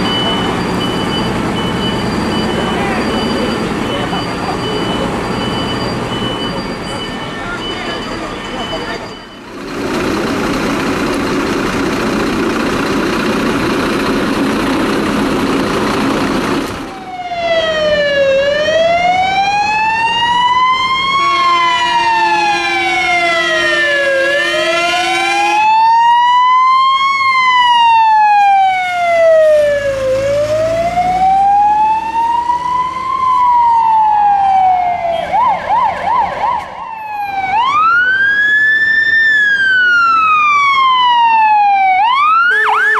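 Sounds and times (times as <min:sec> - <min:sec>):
fire engine siren wailing: 0:00.0 - 0:42.9.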